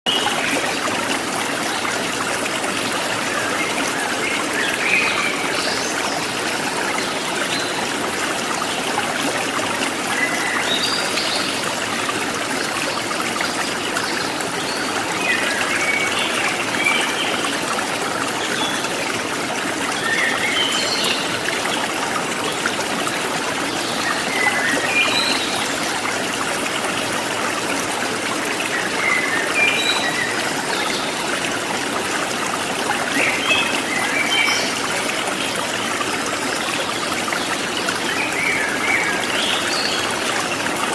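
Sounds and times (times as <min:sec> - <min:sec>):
water trickling: 0:00.1 - 0:40.9.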